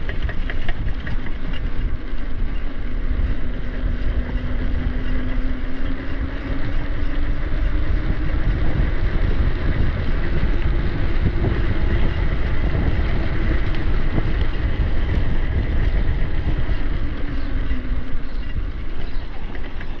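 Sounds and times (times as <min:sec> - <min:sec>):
tyres rolling on trail: 0:00.0 - 0:20.0
wind buffeting microphone: 0:00.0 - 0:20.0.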